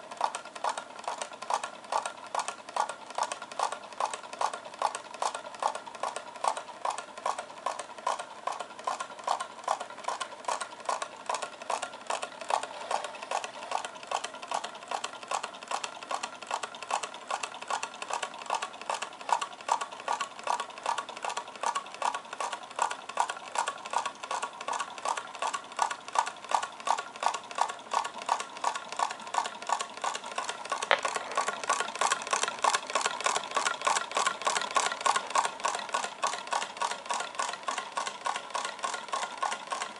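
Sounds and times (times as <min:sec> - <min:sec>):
stirling engine linkage clicking: 0:00.1 - 0:39.9.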